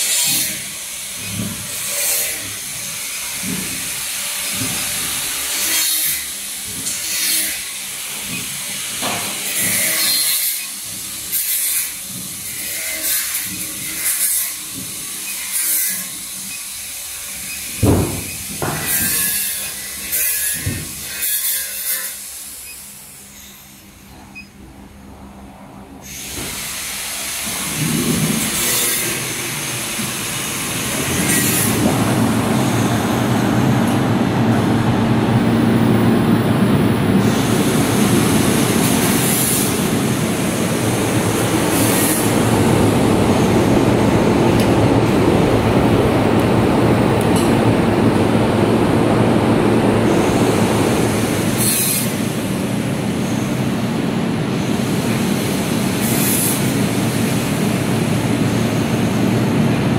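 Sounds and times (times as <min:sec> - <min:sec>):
chiller mechanical running noise: 0:00.0 - 0:59.9.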